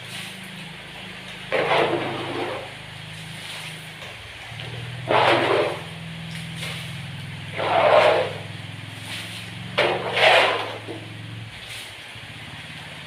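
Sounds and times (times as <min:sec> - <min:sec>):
steady low hum: 0:00.0 - 0:13.0
water splashing: 0:00.0 - 0:13.0.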